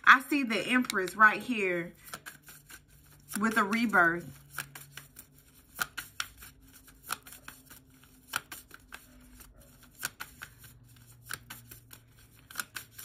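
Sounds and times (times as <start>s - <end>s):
cards being shuffled: 0.5s - 13.0s.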